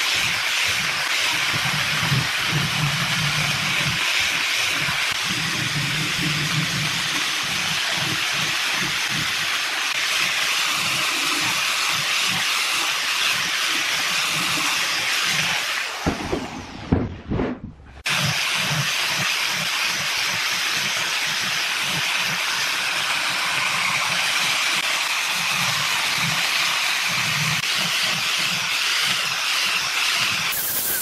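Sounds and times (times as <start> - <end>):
angle grinder sanding wood: 0.0 - 16.5, 18.0 - 31.0.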